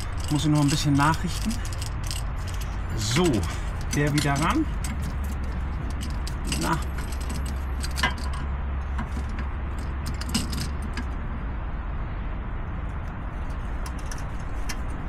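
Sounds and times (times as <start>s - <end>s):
metal clamp clinking and clicking: 0.0s - 11.2s, 13.0s - 15.0s
steady low hum: 0.0s - 15.0s.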